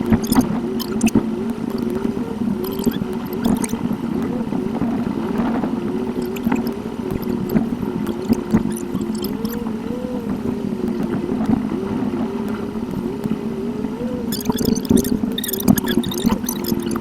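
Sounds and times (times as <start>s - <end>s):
warbling sped-up car hum: 0.0s - 17.0s.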